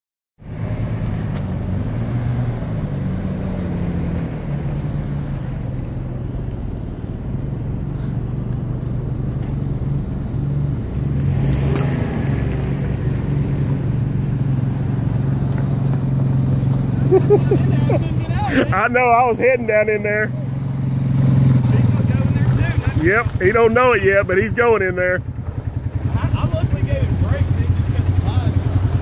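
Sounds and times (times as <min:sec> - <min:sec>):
vehicle engine droning: 0:00.4 - 0:29.0.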